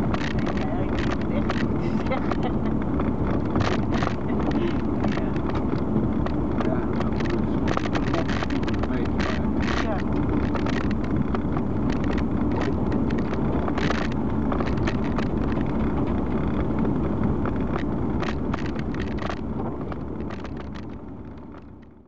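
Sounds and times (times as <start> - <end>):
car cabin road rumble: 0.0 - 22.0
light clicks and knocks: 0.1 - 21.9.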